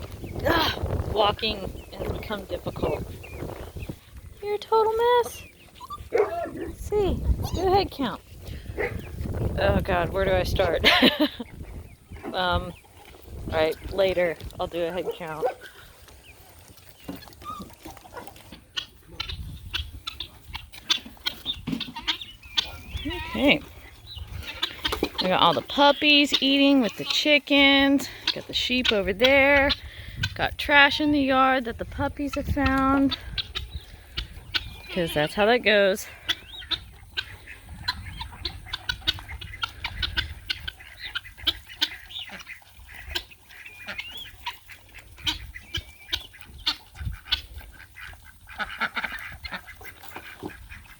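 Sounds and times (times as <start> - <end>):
animals feeding clicks and crunches: 0.0 - 9.5, 11.0 - 50.9
chickens clucking: 0.0 - 50.9.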